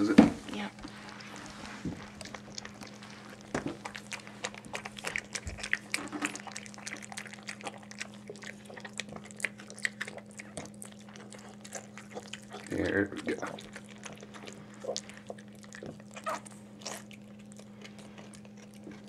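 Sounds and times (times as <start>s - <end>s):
steady low hum: 0.0s - 19.0s
dog licking and chewing: 0.5s - 19.0s.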